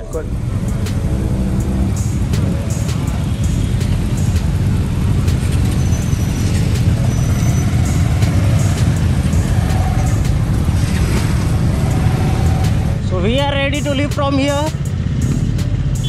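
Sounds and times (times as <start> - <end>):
motorcycle engines idling and riding off: 0.0 - 16.0.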